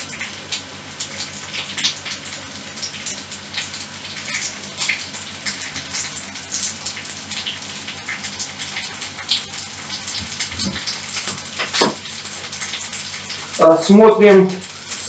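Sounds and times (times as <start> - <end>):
tap water running into kettle: 0.0 - 15.0.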